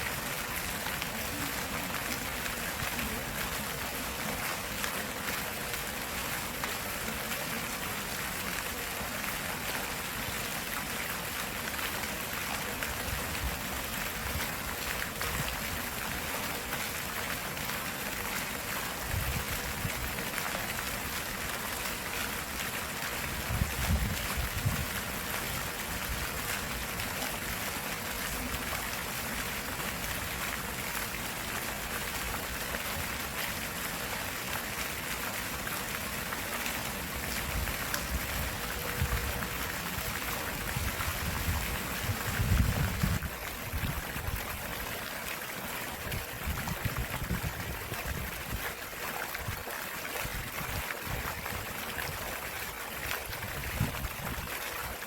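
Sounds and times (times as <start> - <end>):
stream water running: 0.0 - 55.0.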